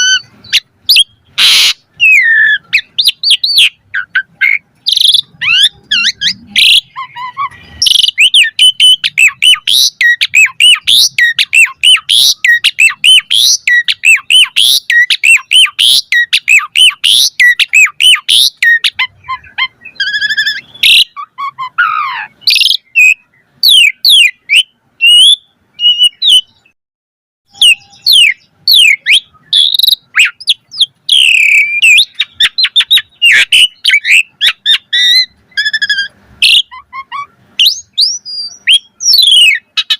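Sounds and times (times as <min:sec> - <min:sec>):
starling singing whistles and chirps: 0:00.0 - 0:26.8, 0:27.5 - 0:39.9.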